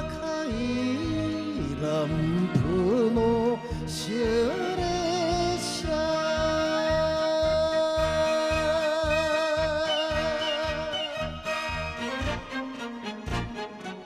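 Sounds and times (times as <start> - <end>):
band accompaniment with steady beat: 0.0 - 14.0
person singing with vibrato: 0.0 - 14.0.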